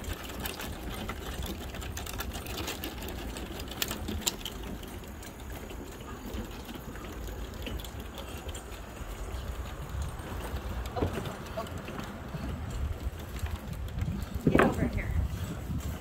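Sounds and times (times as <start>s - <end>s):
footsteps on wooden boards: 0.0s - 16.0s.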